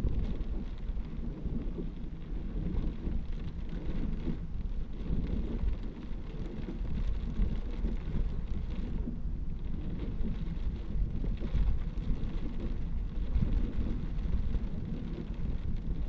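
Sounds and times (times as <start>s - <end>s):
heavy rain drumming on car roof: 0.0s - 16.0s.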